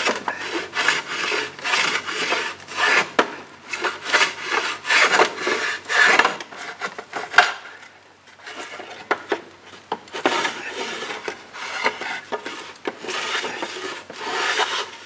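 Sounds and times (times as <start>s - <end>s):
hand plane shaving wood: 0.0s - 7.6s, 10.0s - 15.0s.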